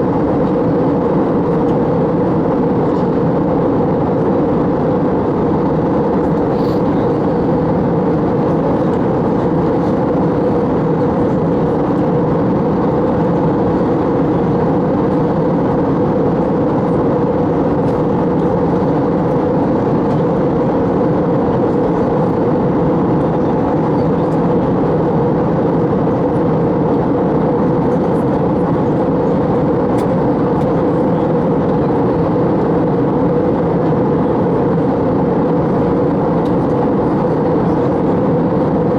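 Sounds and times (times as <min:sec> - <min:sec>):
airliner cabin noise: 0:00.0 - 0:38.9.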